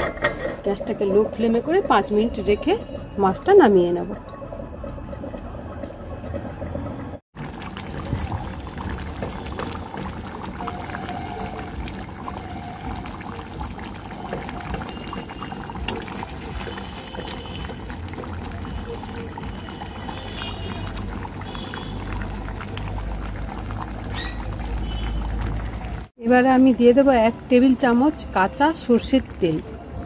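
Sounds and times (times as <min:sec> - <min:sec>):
curry simmering and bubbling: 0:00.5 - 0:30.0.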